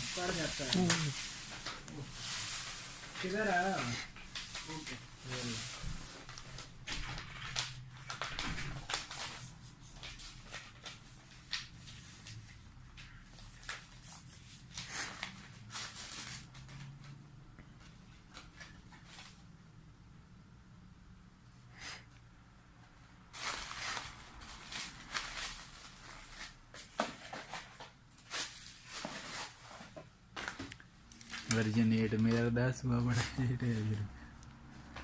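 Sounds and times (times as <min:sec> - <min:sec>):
rustling: 0:00.0 - 0:17.2, 0:23.3 - 0:34.1.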